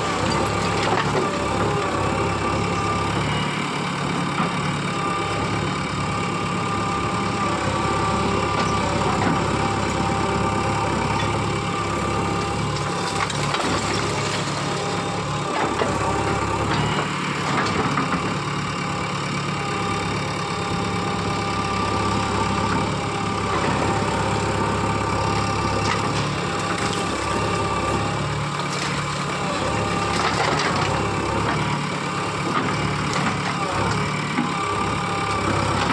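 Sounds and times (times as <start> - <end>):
heavy machine engine running: 0.0 - 35.9.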